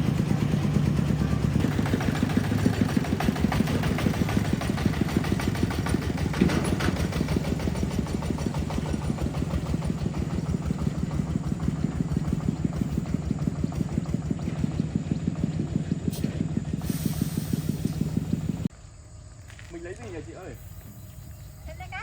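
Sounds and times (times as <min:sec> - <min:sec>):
truck engine running: 0:00.0 - 0:18.7.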